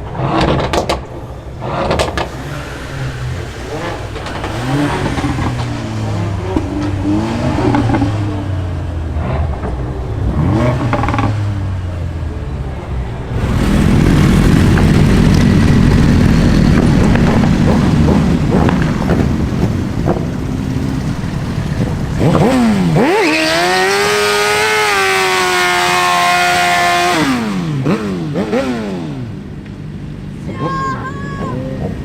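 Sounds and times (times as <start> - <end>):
car engine idling and revving: 0.0 - 32.0
loud steady rumble: 0.0 - 32.0.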